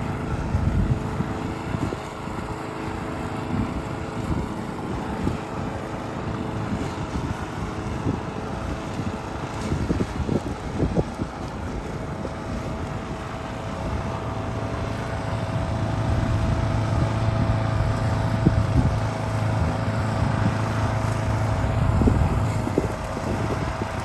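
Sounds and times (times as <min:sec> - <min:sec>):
vehicle engine humming: 0:00.0 - 0:24.0
wind noise on microphone: 0:00.0 - 0:24.0.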